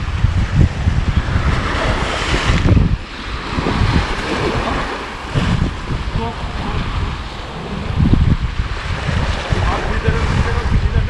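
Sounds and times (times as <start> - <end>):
waves washing against rocks: 0.0 - 11.0
wind buffeting microphone: 0.0 - 11.0.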